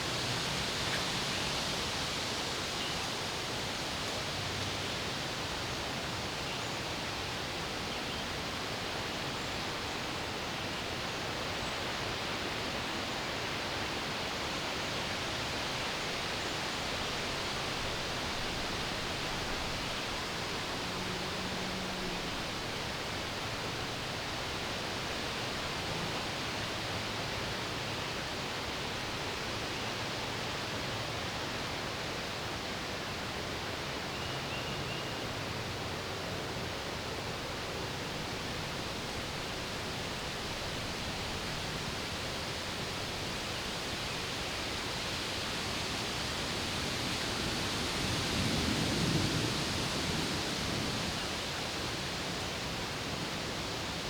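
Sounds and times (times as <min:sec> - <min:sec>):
wind hissing through trees: 0:00.0 - 0:54.0.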